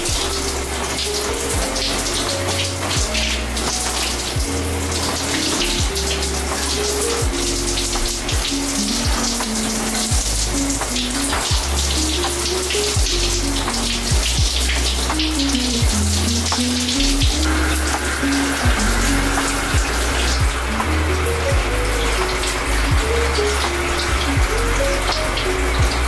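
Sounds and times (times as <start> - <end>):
background music with bass and beat: 0.0 - 26.0
shower water spraying: 0.0 - 26.0.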